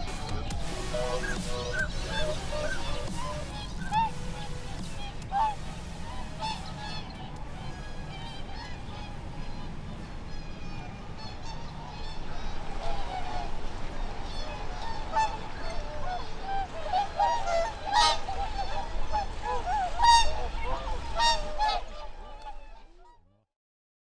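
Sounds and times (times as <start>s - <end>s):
swans honking: 0.0s - 23.3s.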